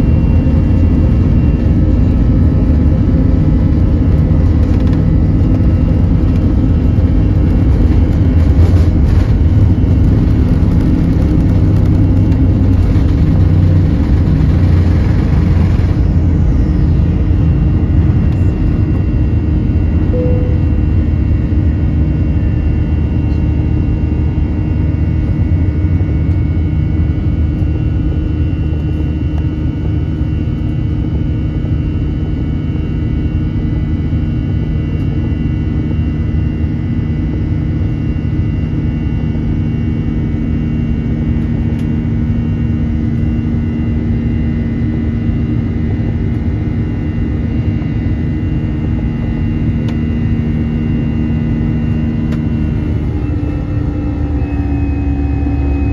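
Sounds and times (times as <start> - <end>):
jet engines and airflow rumble: 0.0 - 55.9
steady whining tones: 0.0 - 55.9.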